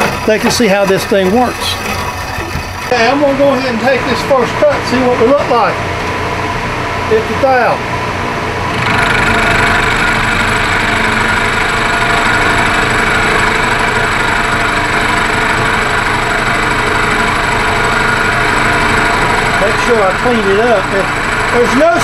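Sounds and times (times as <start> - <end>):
milling machine cutting metal: 0.0 - 22.0.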